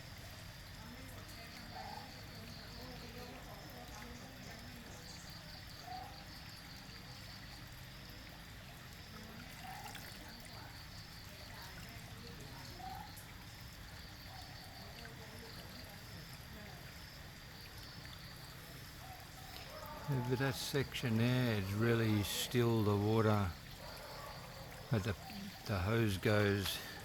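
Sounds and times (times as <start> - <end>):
waterfall trickling over rocks: 0.0 - 27.0.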